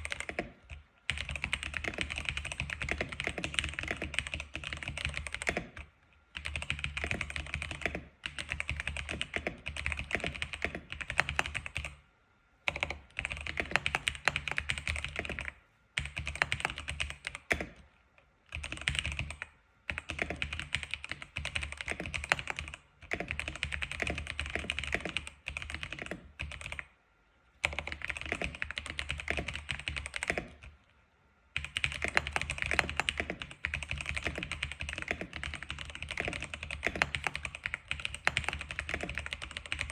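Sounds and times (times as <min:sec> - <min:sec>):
fast typing on keyboard: 0:00.0 - 0:12.0, 0:12.7 - 0:17.8, 0:18.5 - 0:26.9, 0:27.6 - 0:30.7, 0:31.6 - 0:39.9.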